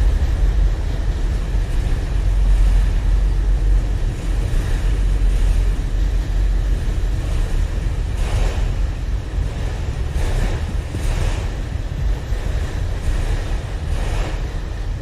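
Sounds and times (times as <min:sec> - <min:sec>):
train rumbling past: 0:00.0 - 0:15.0
wind buffeting microphone: 0:00.0 - 0:15.0.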